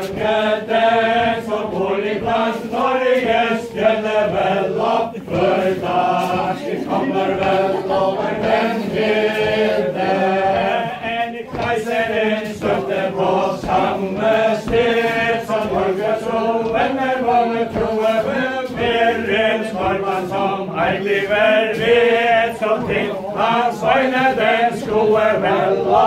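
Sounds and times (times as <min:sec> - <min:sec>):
group singing in unison: 0:00.0 - 0:26.0.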